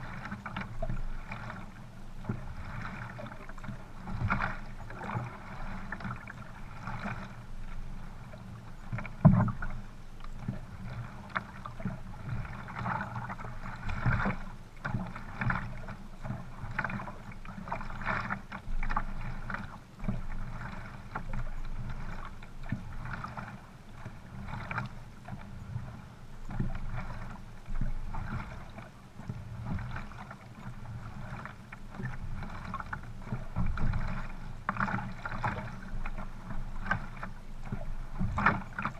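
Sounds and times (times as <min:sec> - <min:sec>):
paddle strokes splashing: 0:00.0 - 0:38.9
water washing along hull: 0:00.0 - 0:38.9.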